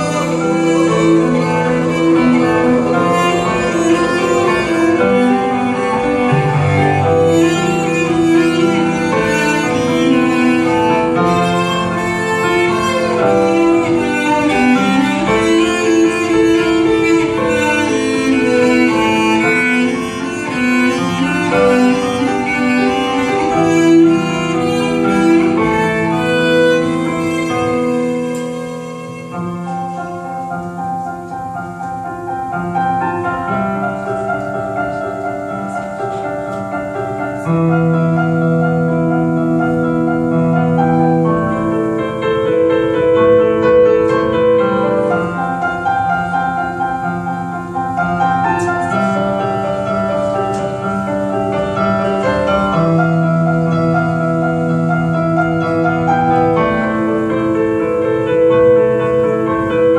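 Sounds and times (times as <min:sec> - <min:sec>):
keyboard playing piano chords: 0:00.0 - 0:59.9.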